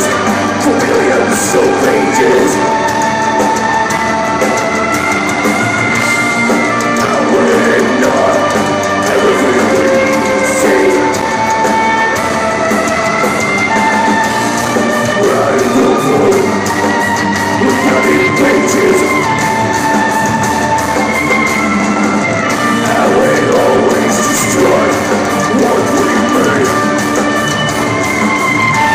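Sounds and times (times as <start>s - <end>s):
distorted electric guitar: 0.0s - 28.9s
drum kit: 0.0s - 28.9s
violin playing held notes: 0.0s - 28.9s.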